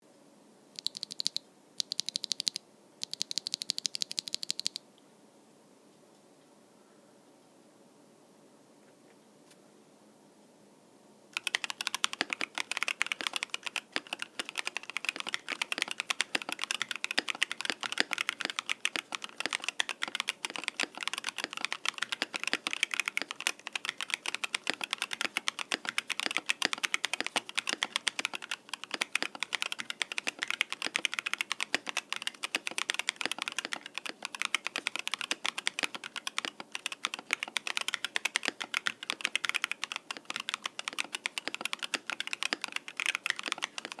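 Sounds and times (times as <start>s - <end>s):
fast typing on mechanical keyboard: 0.8s - 4.8s, 11.4s - 44.0s.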